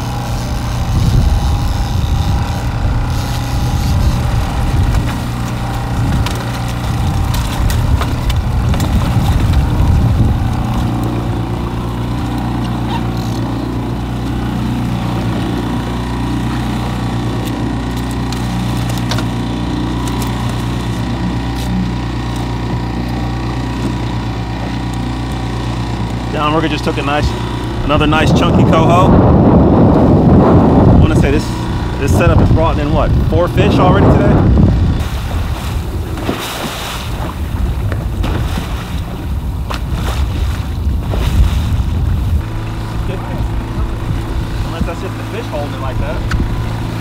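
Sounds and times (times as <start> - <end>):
wind buffeting microphone: 0.0 - 18.0, 19.2 - 47.0
outboard motor humming: 0.0 - 47.0
waves slapping against boat: 0.0 - 47.0.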